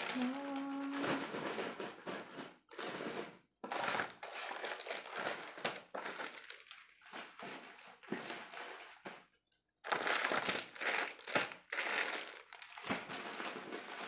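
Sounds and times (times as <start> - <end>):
plastic wrappers crinkling: 0.0 - 14.0.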